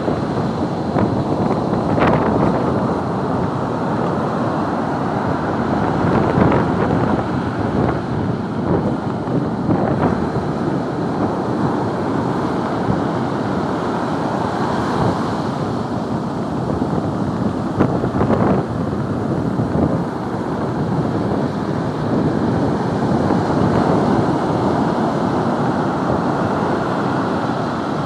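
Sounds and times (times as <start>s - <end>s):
heavy surf breaking on beach: 0.0s - 28.0s
strong wind buffeting microphone: 0.0s - 28.0s.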